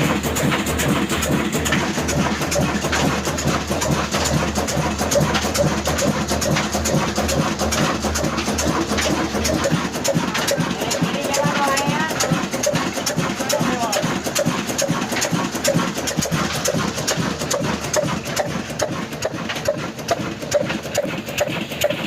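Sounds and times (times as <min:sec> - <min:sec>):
diesel engine droning and clattering: 0:00.0 - 0:22.0.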